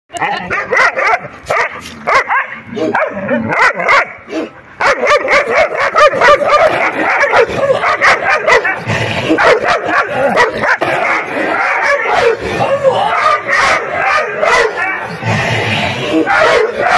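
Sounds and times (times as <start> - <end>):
dogs barking and yapping: 0.1 - 16.9.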